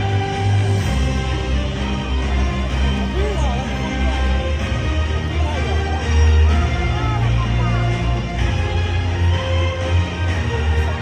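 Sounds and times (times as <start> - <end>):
loud show music: 0.0 - 11.0.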